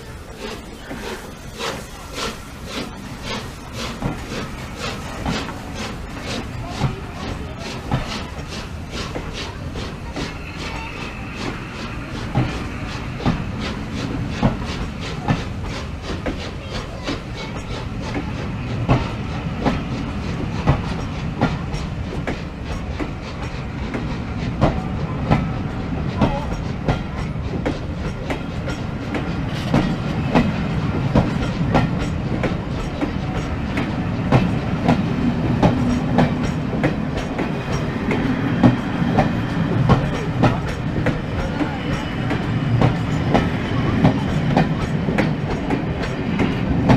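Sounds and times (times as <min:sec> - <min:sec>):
train rumbling past: 0:00.0 - 0:46.9
wheels clacking over rail joints: 0:00.0 - 0:46.9.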